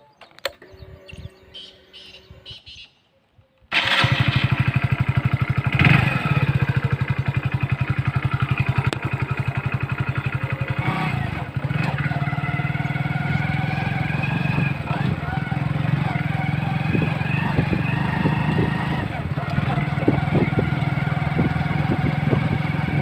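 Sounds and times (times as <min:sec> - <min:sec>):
motorcycle engine starting and idling: 0:03.7 - 0:23.0.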